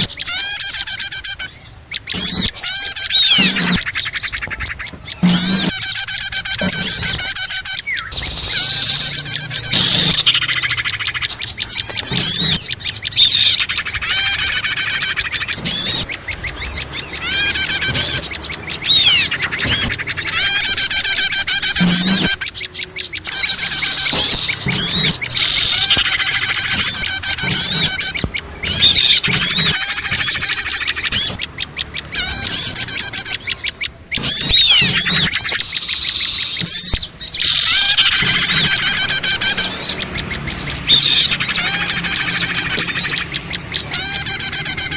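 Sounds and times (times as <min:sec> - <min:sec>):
small songbirds chirping and trilling: 0:00.0 - 0:44.9.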